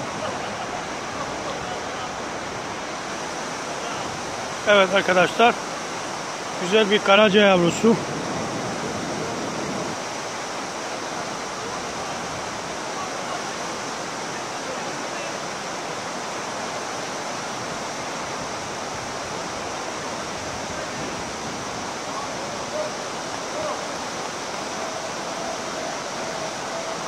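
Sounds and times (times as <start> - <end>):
fast-flowing stream: 0.0 - 27.0.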